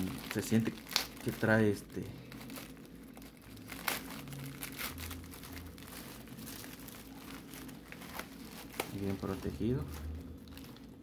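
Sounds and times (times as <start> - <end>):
plastic envelope crinkling: 0.0 - 11.0
sharp plastic crackles: 0.0 - 11.0.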